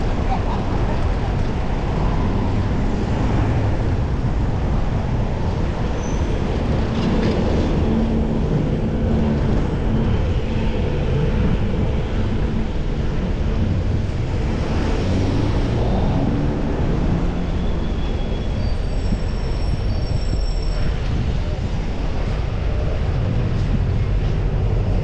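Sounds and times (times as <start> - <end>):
low hum of motor traffic: 0.0 - 25.0
wind and road noise: 0.0 - 25.0.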